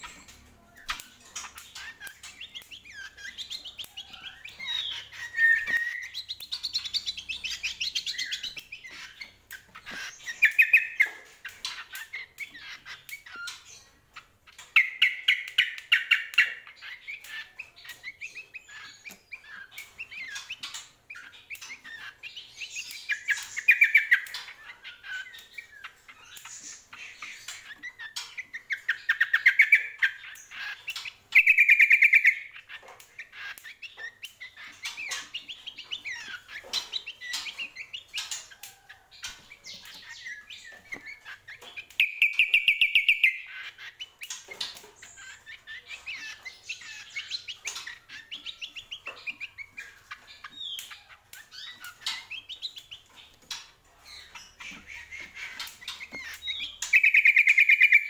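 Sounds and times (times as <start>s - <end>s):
bird chirps and calls: 0.0s - 58.0s.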